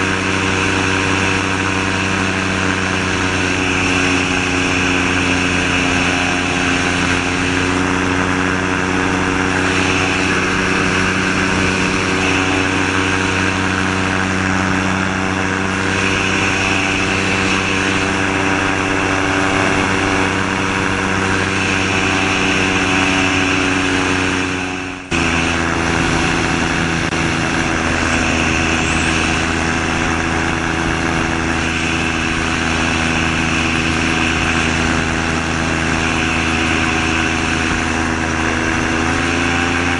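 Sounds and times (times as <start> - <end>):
gyrocopter engine droning: 0.0 - 39.9
wind rush: 0.0 - 39.9.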